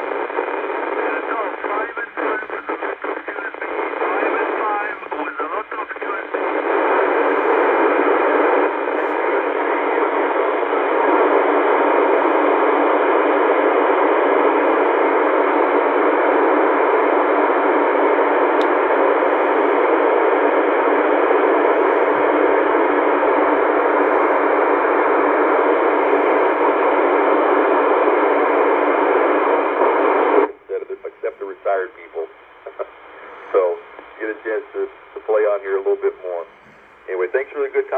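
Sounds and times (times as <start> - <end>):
radio static: 0.0 - 37.9.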